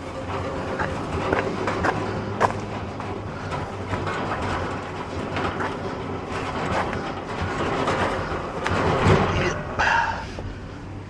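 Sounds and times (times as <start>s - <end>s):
van body rattling and knocking: 0.0s - 11.0s
van road rumble: 0.0s - 11.0s.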